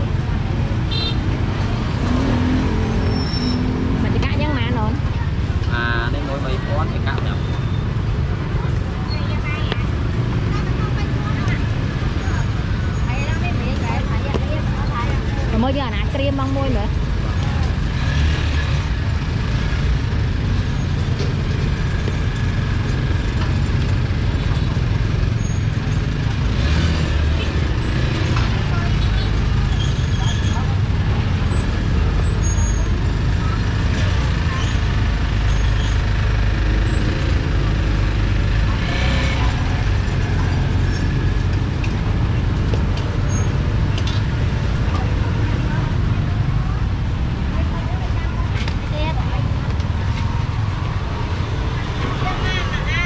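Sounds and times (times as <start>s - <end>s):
street traffic rumble: 0.0s - 53.0s
vehicle engines running: 0.0s - 53.0s.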